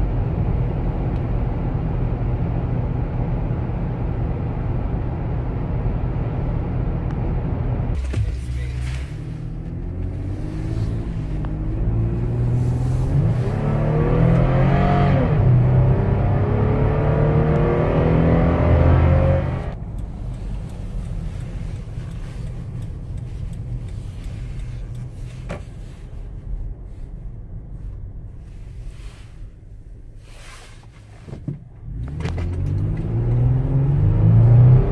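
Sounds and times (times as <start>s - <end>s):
road noise: 0.0s - 34.9s
car engine accelerating: 0.2s - 25.9s, 30.2s - 34.9s.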